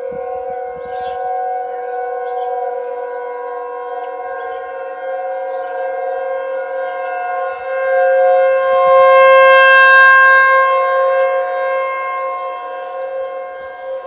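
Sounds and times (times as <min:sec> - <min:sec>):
outdoor warning siren chord: 0:00.0 - 0:14.0.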